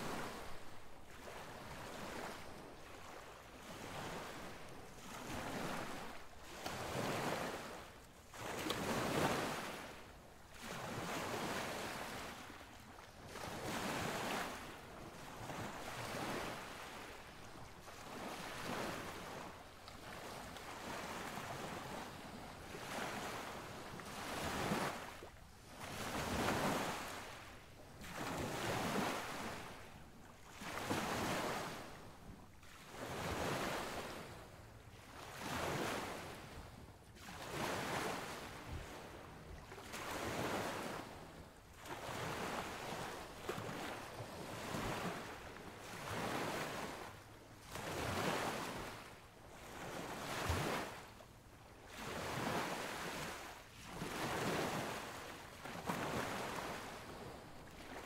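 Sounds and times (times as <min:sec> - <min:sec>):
surf washing on a beach: 0:00.0 - 0:58.0.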